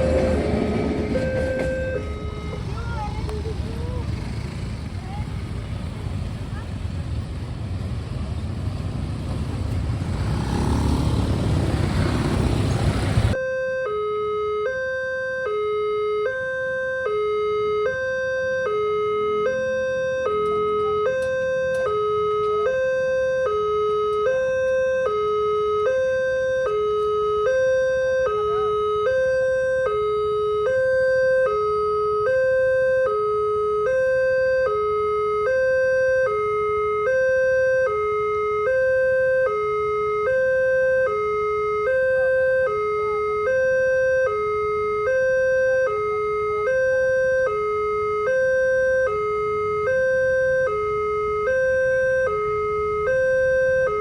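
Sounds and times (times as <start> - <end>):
level crossing alarm: 0.0 - 5.7, 10.6 - 54.0.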